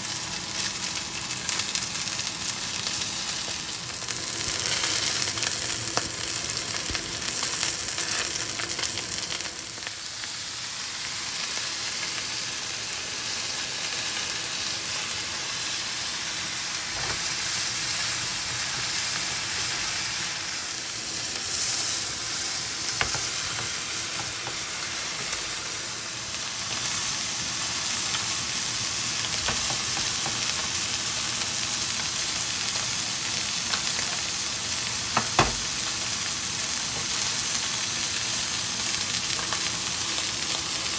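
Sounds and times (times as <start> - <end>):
steak sizzling in a frying pan: 0.0 - 40.9.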